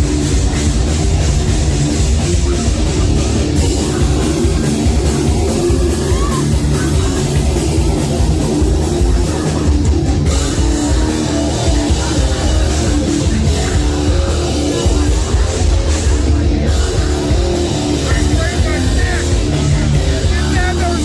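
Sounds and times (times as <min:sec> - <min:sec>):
heavy metal band playing: 0:00.0 - 0:21.0.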